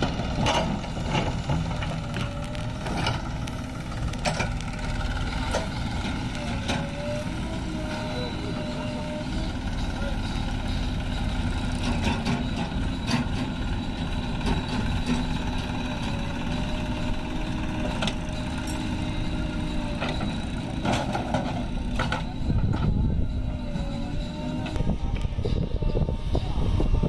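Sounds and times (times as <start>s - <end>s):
diesel engines running under load: 0.0s - 27.0s
thin steady whine: 1.8s - 27.0s.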